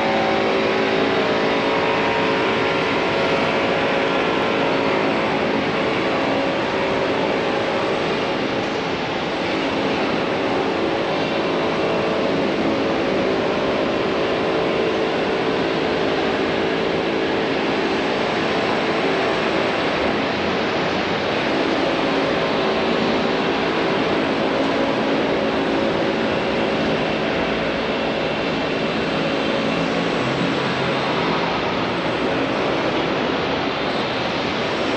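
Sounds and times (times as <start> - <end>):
traffic engine and tyre noise: 0.0 - 34.9.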